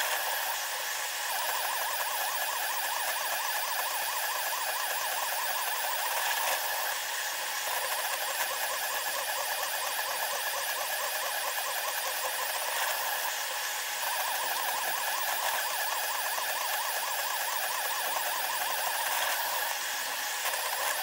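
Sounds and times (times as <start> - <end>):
wavering stepper motor whine: 0.0 - 21.0.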